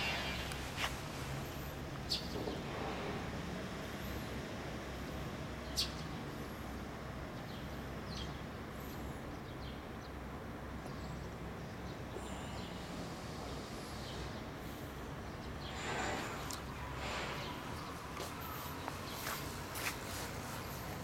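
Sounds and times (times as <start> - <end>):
small birds chirping: 0.0 - 2.7, 3.8 - 21.0.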